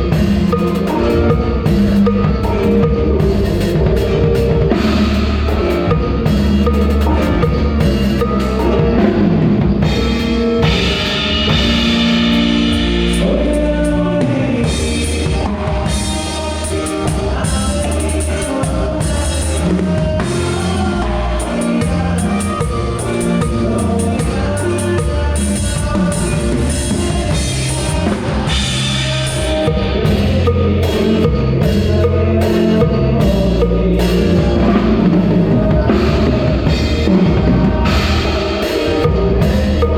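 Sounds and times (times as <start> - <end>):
drum kit: 0.0 - 39.9
live band playing: 0.0 - 39.9.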